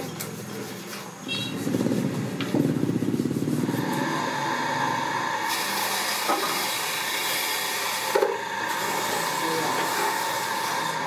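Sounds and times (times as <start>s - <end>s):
electric motor whirring: 1.6s - 11.0s.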